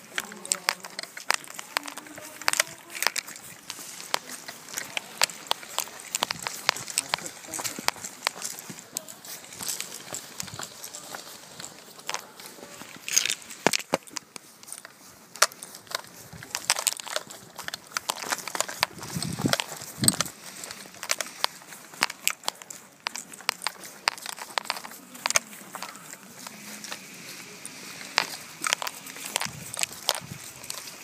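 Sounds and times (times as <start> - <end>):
footsteps crunching dry leaves: 0.0 - 31.0.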